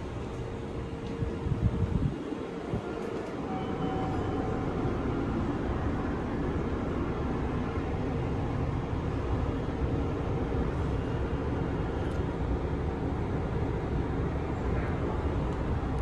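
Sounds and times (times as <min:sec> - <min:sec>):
train car hum and rumble: 0:00.0 - 0:16.0
faint steady tone: 0:02.2 - 0:15.3.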